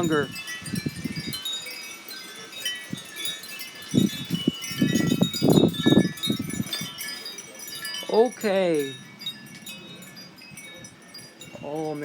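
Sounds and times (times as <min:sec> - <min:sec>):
gusty wind: 0:00.0 - 0:12.0
wind buffeting microphone: 0:00.0 - 0:12.0
wind chimes jangling: 0:00.0 - 0:12.0.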